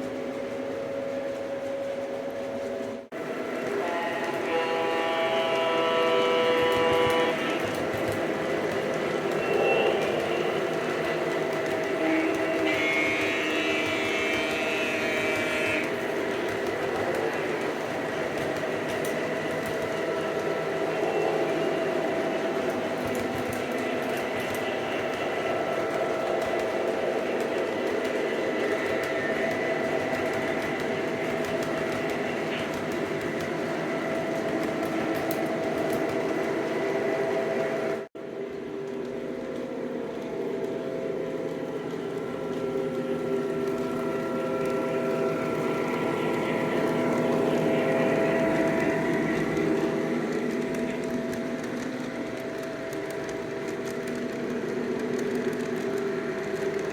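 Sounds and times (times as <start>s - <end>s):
model train motors humming: 3.1s - 56.9s.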